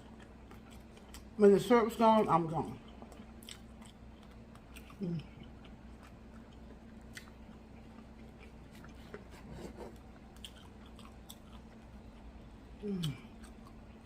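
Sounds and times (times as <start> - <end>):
person chewing food: 0.0 - 1.4, 2.8 - 14.0
faint steady hum: 0.0 - 14.0.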